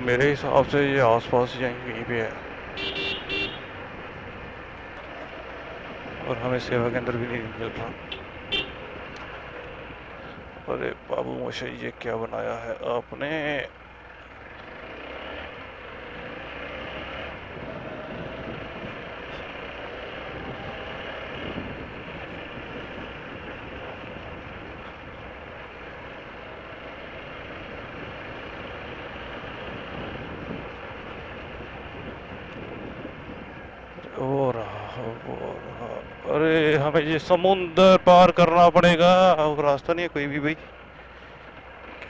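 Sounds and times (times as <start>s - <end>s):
wind and road noise: 0.0s - 42.0s
motorcycle engine running: 0.8s - 11.1s, 13.3s - 37.8s.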